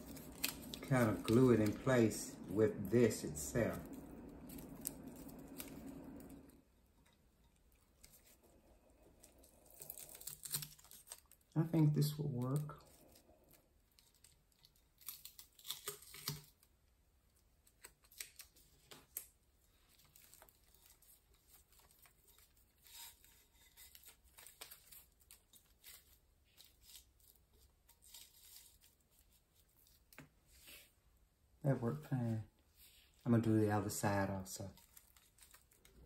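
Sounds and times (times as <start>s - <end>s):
ribbon rustling and crinkling: 0.0s - 16.7s, 17.5s - 31.0s, 34.0s - 36.0s.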